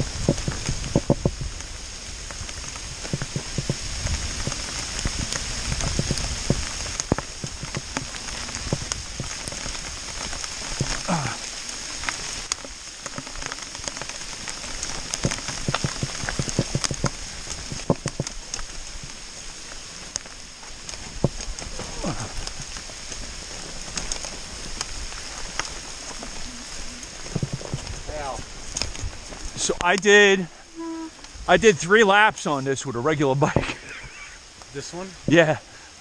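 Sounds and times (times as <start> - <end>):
rain and hail: 0.0 - 36.0.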